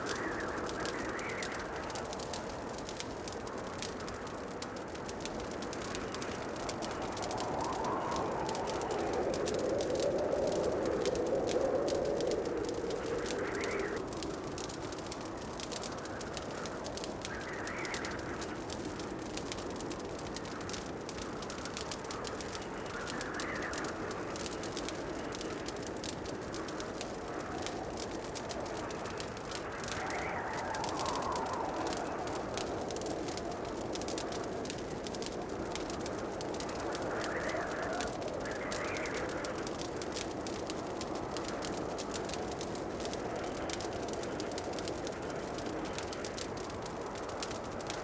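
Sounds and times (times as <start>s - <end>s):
steady fire hiss: 0.0s - 48.0s
wood fire crackling: 0.0s - 48.0s.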